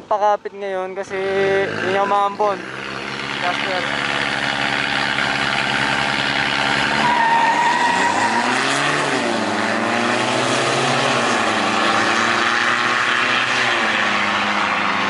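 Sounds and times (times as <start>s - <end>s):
diesel engines revving: 0.9s - 15.0s.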